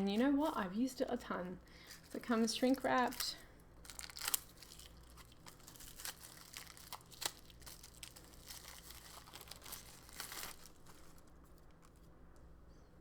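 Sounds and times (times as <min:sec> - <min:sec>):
shrink wrap crinkling: 0:00.0 - 0:12.6.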